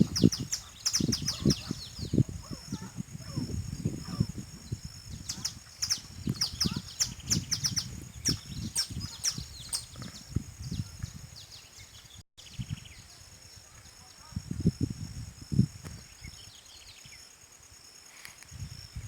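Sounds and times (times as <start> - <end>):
songbirds chirping: 0.0 - 14.5, 15.8 - 19.0.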